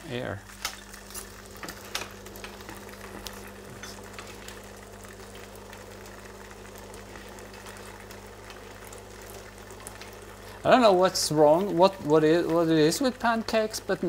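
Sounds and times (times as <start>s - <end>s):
batter sizzling in a frying pan: 0.0s - 14.0s
extractor fan humming: 0.0s - 14.0s.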